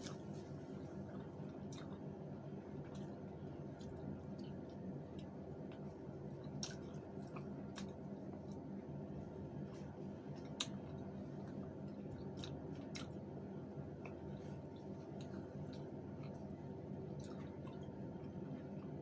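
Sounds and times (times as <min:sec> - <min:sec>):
chewing and wet mouth sounds: 0:00.0 - 0:19.0
low background hum: 0:00.0 - 0:19.0.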